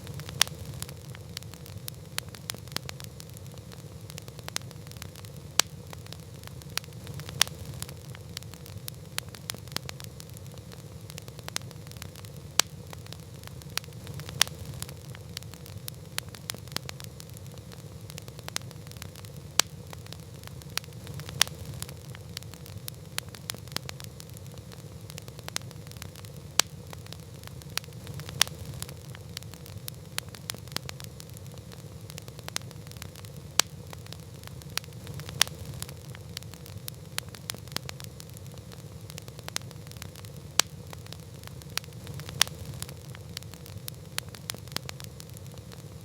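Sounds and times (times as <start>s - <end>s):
campfire crackling: 0.0s - 46.0s.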